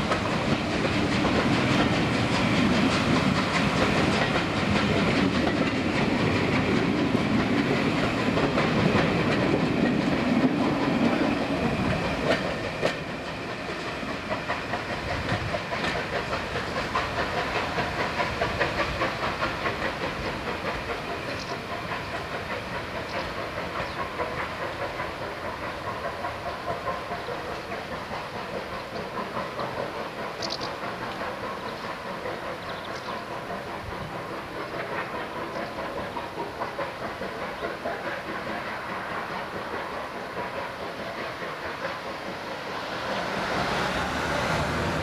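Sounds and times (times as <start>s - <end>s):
pulsing train rumble: 0.0s - 45.0s
train wheels clattering over rails: 0.0s - 45.0s.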